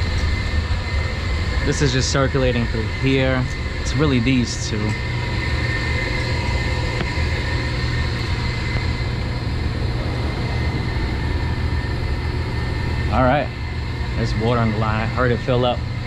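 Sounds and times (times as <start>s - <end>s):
boiler room machinery hum: 0.0s - 16.0s
faint high whine: 0.0s - 16.0s.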